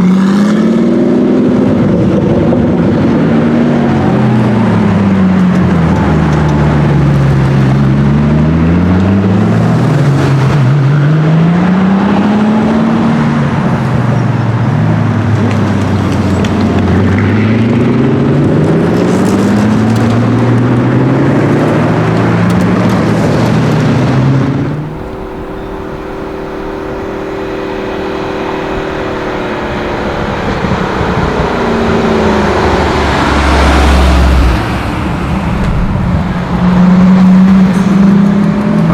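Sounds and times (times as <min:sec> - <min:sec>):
car engine approaching: 0:00.0 - 0:38.9
sports car engine accelerating: 0:00.0 - 0:38.9.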